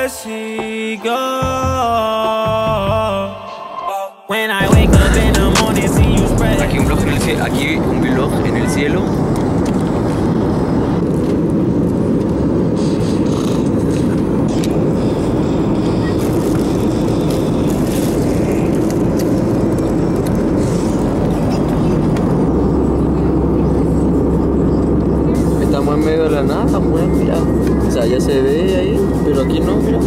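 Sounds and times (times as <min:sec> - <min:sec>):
jet cabin engine noise: 0:04.6 - 0:30.0.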